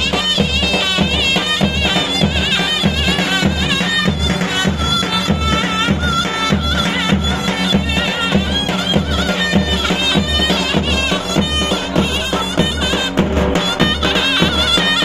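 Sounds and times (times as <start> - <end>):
shrill reed pipe melody: 0.0 - 15.0.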